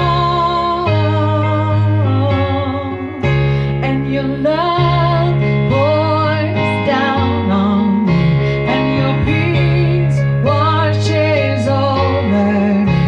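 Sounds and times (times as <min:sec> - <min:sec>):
sustained keyboard chords: 0:00.0 - 0:13.0
woman singing worship song: 0:00.0 - 0:13.0.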